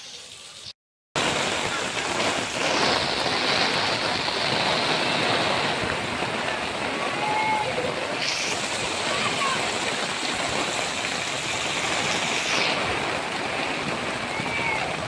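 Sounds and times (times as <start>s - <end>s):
heavy rain pouring: 1.2s - 15.0s.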